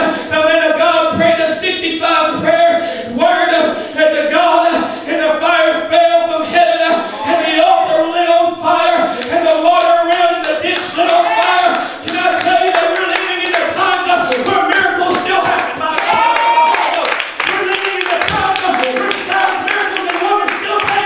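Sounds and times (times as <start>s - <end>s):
man preaching through microphone: 0.0s - 21.0s.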